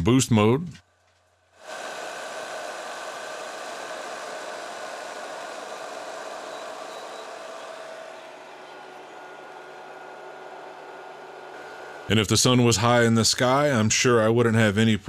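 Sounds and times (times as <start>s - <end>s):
compressor hum and whine: 0.0s - 15.0s
fan air rushing: 0.9s - 13.9s.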